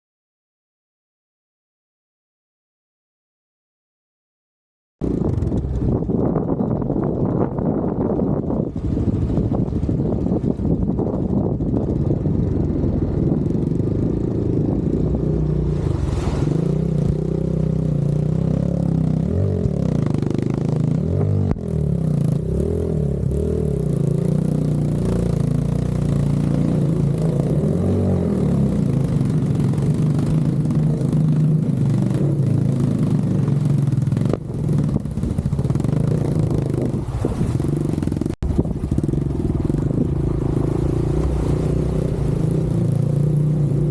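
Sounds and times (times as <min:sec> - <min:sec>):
motorcycle engine revving: 0:05.0 - 0:43.9.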